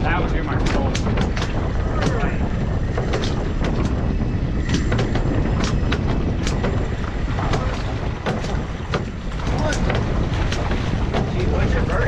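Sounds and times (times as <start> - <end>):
steady low rumble: 0.0 - 12.0
water slapping against hull: 0.0 - 12.0
wind buffeting microphone: 0.0 - 12.0.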